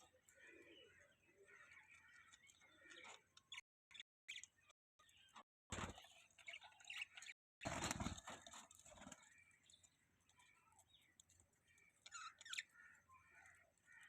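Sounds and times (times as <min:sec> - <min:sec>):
budgies chirping: 0:00.0 - 0:08.1, 0:09.0 - 0:14.0.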